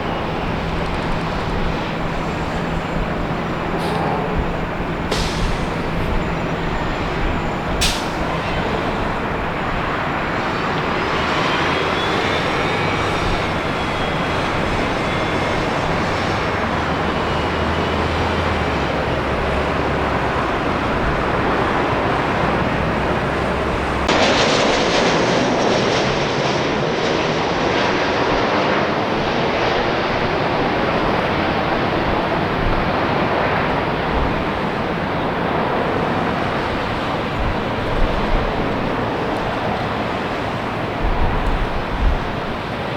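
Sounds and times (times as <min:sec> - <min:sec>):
faint engine whine: 0:00.0 - 0:42.9
jet engines running: 0:00.0 - 0:42.9.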